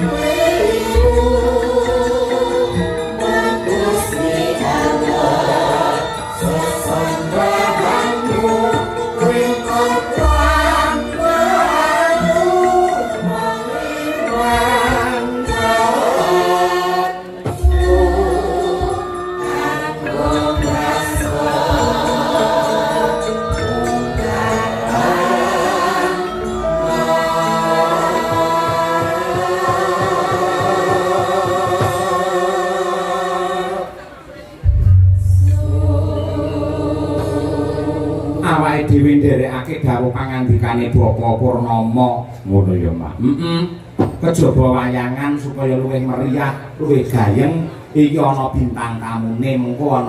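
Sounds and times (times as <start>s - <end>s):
gamelan music: 0.0s - 42.4s
voices singing slow melody: 0.0s - 44.5s.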